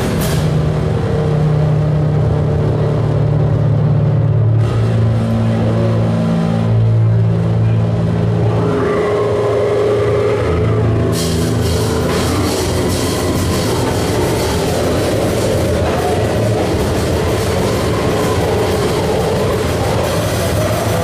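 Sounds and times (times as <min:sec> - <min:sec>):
distorted noise wall: 0:00.0 - 0:21.0
low droning tones: 0:00.0 - 0:21.0.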